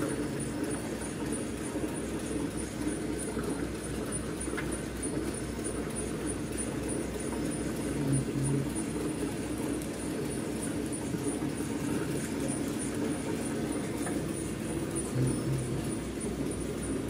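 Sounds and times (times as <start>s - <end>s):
packaging machinery humming: 0.0s - 17.0s.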